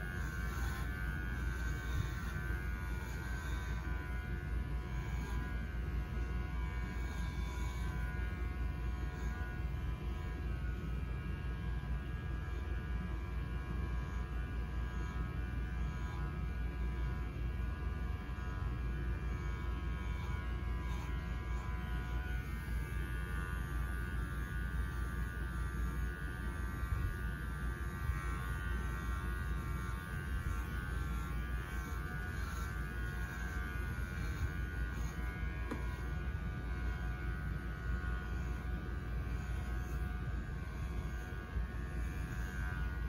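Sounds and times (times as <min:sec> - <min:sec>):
electric clippers buzzing: 0:00.0 - 0:43.0.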